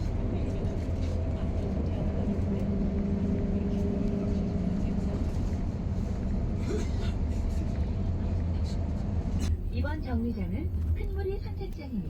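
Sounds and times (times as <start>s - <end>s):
bus engine and road rumble: 0.0s - 12.0s
engine hum: 0.0s - 12.0s.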